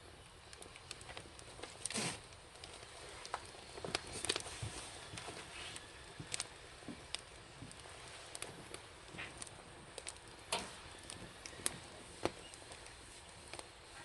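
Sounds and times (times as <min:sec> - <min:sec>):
burning logs popping: 0:00.0 - 0:14.0
wood fire crackling: 0:00.0 - 0:14.0.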